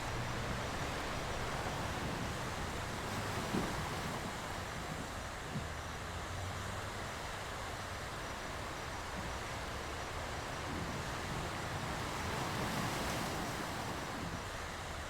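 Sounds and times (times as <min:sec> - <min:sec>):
sea surf washing in: 0:00.0 - 0:15.0.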